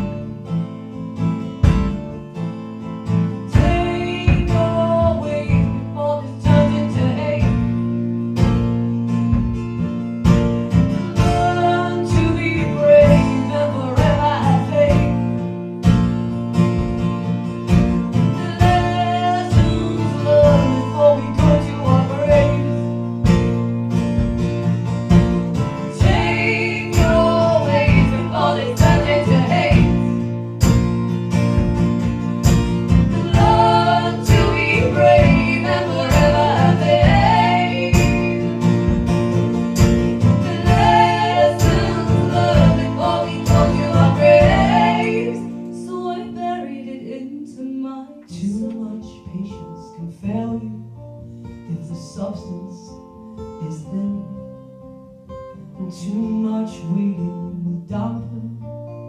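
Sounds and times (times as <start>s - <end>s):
strummed acoustic guitar chords: 0.0s - 47.4s.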